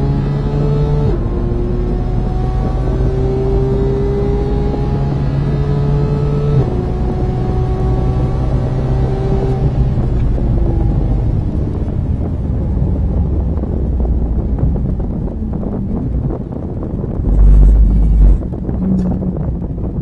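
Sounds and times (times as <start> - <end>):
race car engine at full throttle: 0.0 - 20.0
wind and road noise: 0.0 - 20.0.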